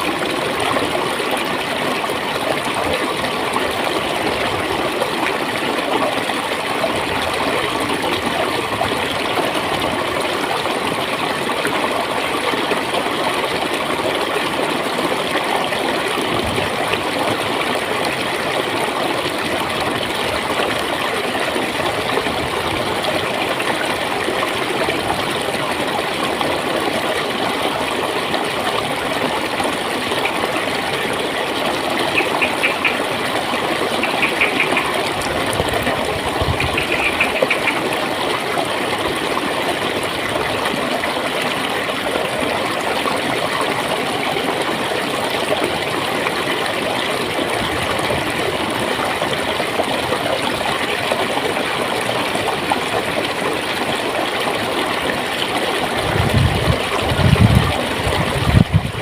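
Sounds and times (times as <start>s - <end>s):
water gurgling: 0.0s - 59.0s.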